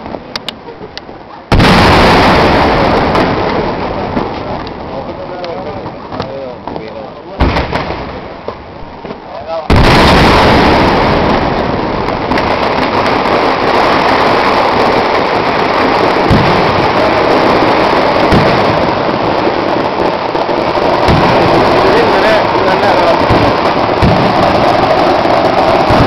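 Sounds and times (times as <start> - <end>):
firecrackers barrage: 0.0 - 26.0
heavy firework bangs: 1.5 - 26.0.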